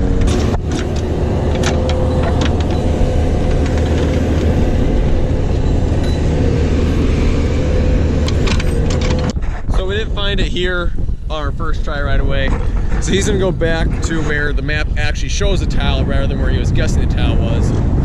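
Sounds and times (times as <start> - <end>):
backhoe diesel engine drone: 0.0 - 18.0.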